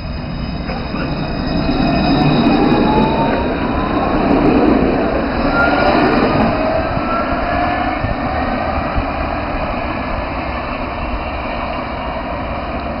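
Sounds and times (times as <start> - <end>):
rising whine of traction motors: 0.0 - 13.0
tram pulling away: 0.0 - 13.0.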